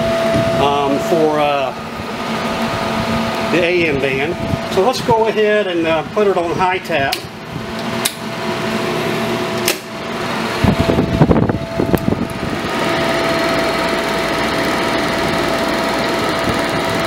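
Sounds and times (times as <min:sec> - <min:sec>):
low hum: 0:00.0 - 0:06.6, 0:07.2 - 0:17.0
electric fan whirring: 0:00.0 - 0:17.0.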